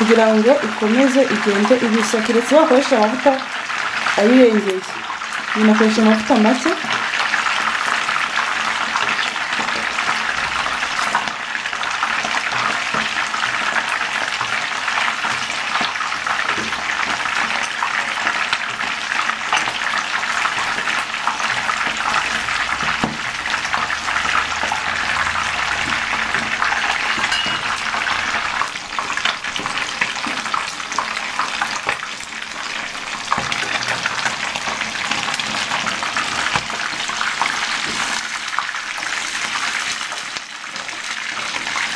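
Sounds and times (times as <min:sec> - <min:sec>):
fish sizzling in hot oil: 0:00.0 - 0:41.9.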